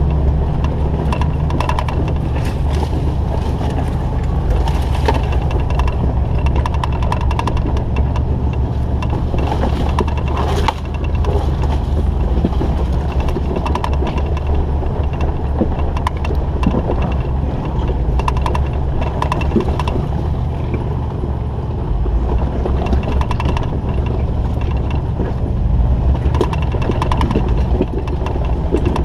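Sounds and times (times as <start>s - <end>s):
engine rumbling: 0.0s - 29.0s
vehicle rattling and knocking: 0.0s - 29.0s.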